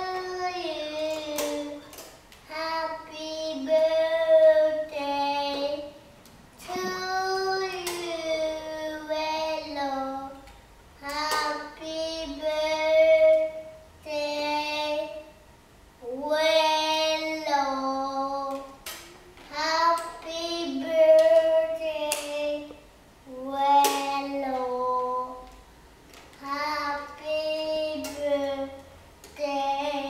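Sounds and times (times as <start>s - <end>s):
young boy singing: 0.0s - 6.0s, 6.6s - 15.4s, 16.0s - 18.8s, 19.4s - 25.6s, 26.4s - 30.0s.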